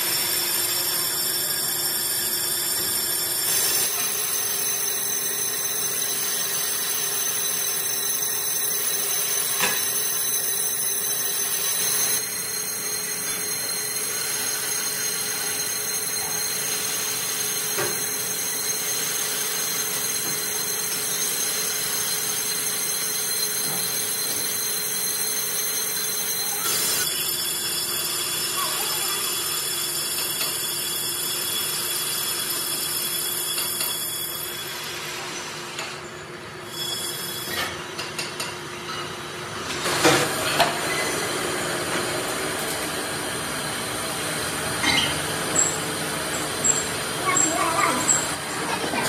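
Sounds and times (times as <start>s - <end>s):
metal lathe whining: 0.0s - 32.6s, 40.8s - 49.0s.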